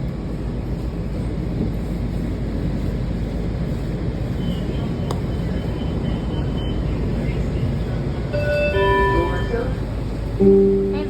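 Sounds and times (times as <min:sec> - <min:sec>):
train rumbling from inside car: 0:00.0 - 0:11.0.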